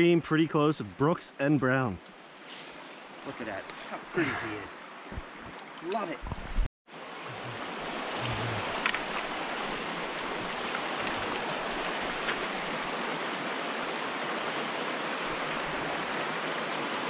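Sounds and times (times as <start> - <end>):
stream water rushing: 2.2 - 17.0.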